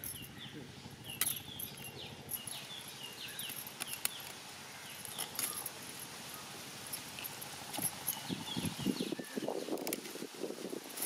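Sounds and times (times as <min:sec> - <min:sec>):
bird chirping: 0:00.0 - 0:09.7
insect hiss: 0:00.0 - 0:11.0.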